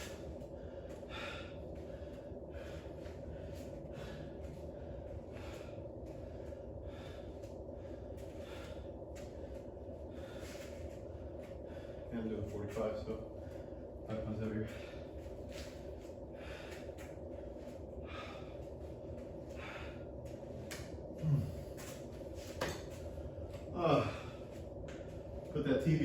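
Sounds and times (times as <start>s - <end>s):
man breathing hard: 0.0s - 25.5s
steady low hum: 0.0s - 26.0s.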